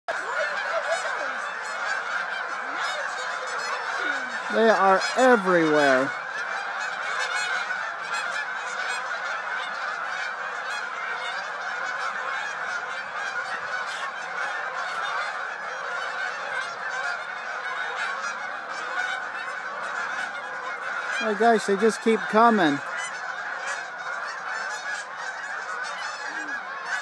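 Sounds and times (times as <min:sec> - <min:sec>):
flock of geese honking: 0:00.1 - 0:27.0.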